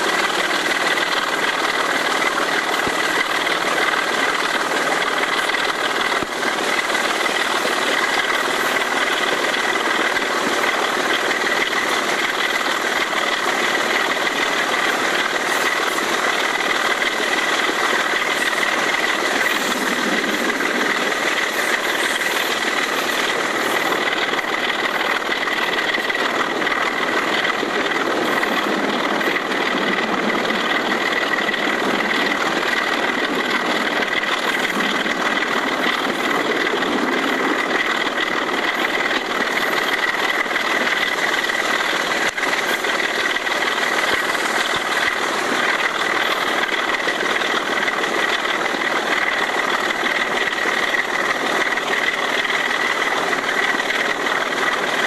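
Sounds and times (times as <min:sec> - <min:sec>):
diesel locomotive engine at full power: 0:00.0 - 0:55.0
steady high whine: 0:00.0 - 0:55.0.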